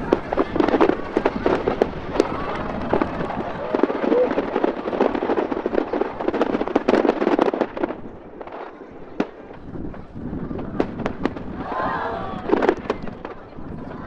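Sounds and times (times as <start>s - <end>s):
fireworks crackling pops: 0.0s - 14.0s
fireworks sharp reports: 0.0s - 14.0s.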